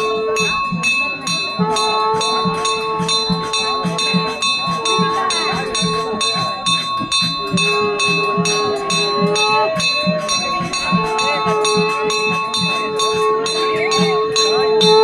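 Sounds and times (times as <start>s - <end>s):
temple bell ringing rapidly: 0.0s - 15.0s
wind instrument long notes: 0.0s - 15.0s.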